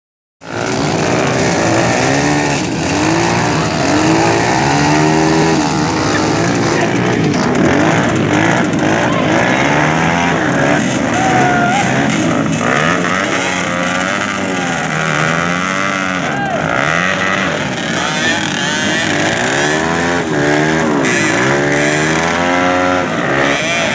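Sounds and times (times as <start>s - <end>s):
dirt bike engines revving: 0.4s - 23.9s.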